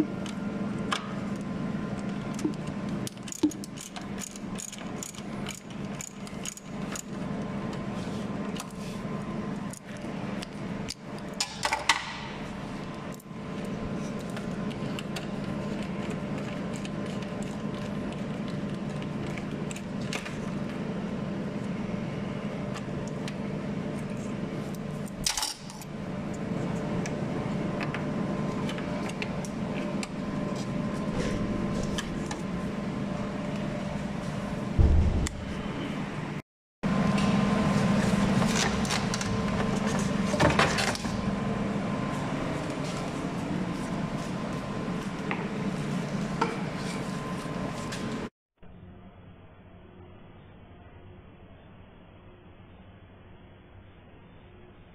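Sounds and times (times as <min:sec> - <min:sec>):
steady background hum: 0:00.0 - 0:54.9.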